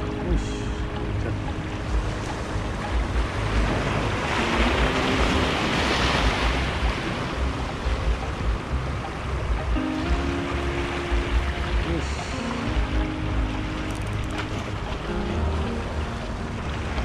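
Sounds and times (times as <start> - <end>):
sea waves washing against rocks: 0.0 - 17.0
wind buffeting microphone: 0.0 - 17.0.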